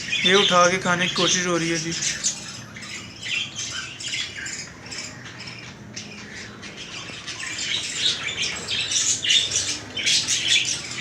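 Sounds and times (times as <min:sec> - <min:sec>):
budgerigars chattering: 0:00.0 - 0:11.0.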